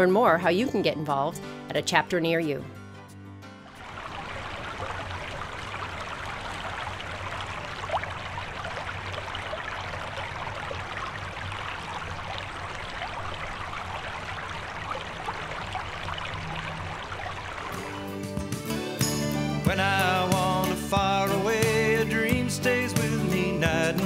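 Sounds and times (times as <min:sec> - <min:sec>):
creek running water: 0:03.6 - 0:24.0.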